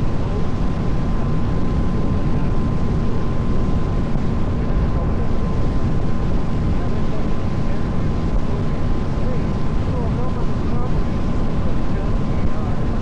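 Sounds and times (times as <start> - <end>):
boat engine rumble: 0.0 - 13.0
thin steady whine: 0.0 - 13.0.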